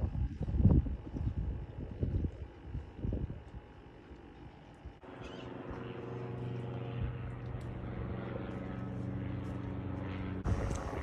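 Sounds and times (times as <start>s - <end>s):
steady engine drone: 0.0s - 11.0s.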